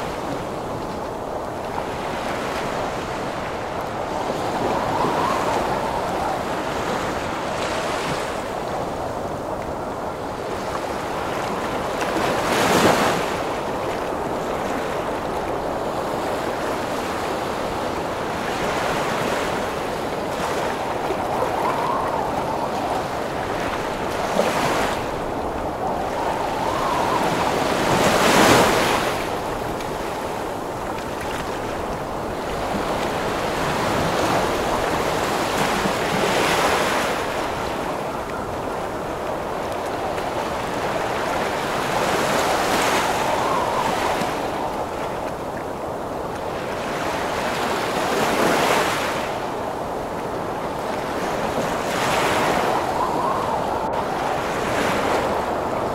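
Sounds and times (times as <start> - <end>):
faint howling wind: 0.0 - 55.9
large waves breaking: 0.0 - 55.9
surf roaring: 0.0 - 55.9.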